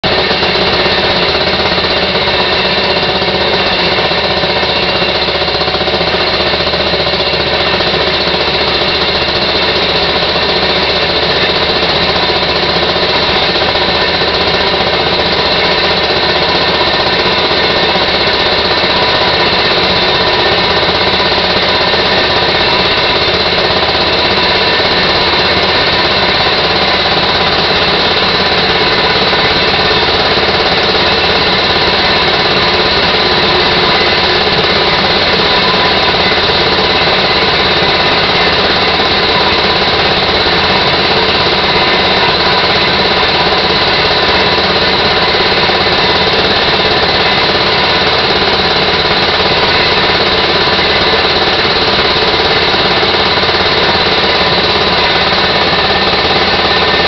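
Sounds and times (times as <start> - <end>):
rail motorcar engine running: 0.0 - 57.0.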